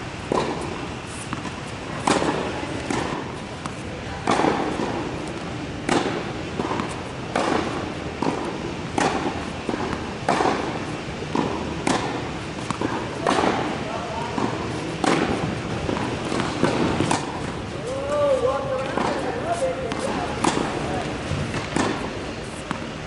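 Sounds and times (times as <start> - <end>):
racket hitting tennis ball: 0.2 - 23.0
tennis ball bouncing: 0.2 - 23.0.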